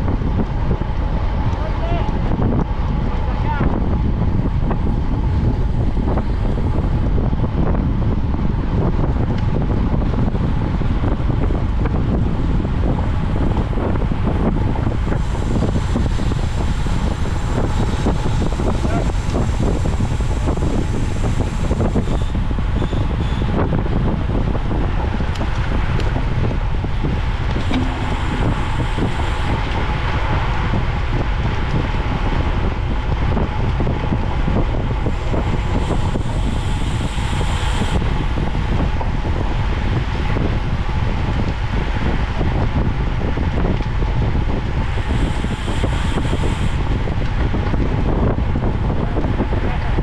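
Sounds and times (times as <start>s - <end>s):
wind rumble on microphone: 0.0s - 50.0s.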